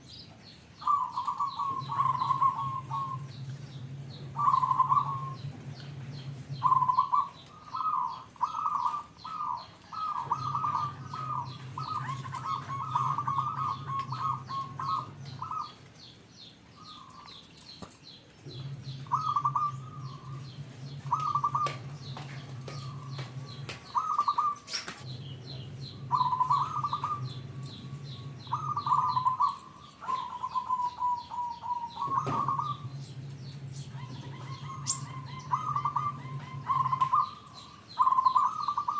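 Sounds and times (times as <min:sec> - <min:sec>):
small birds chirping: 0:00.0 - 0:38.9
dove cooing: 0:00.8 - 0:15.8, 0:18.4 - 0:38.9.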